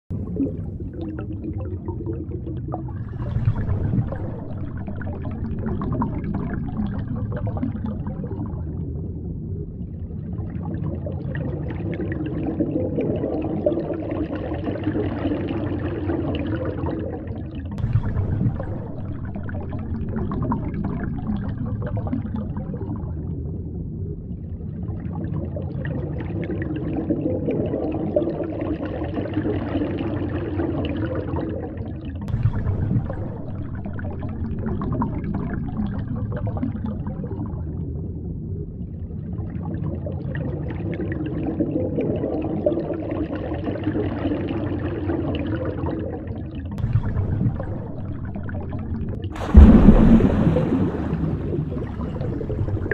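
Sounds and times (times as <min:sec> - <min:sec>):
underwater rush with gurgles: 0:00.1 - 0:52.9.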